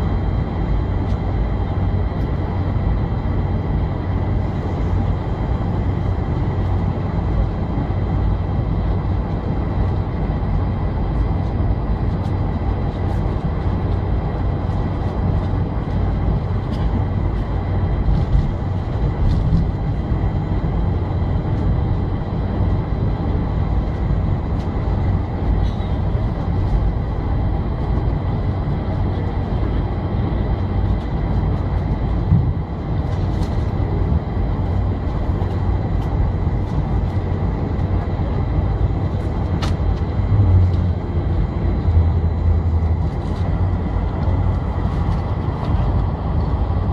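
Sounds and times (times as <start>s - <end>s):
jet engine cabin drone: 0.0s - 46.9s.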